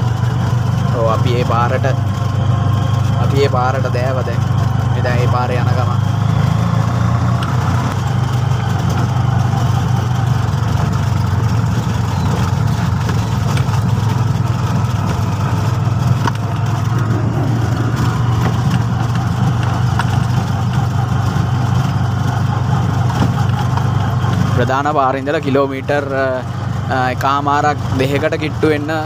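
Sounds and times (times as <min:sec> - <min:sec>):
engine droning while driving: 0:00.0 - 0:29.0.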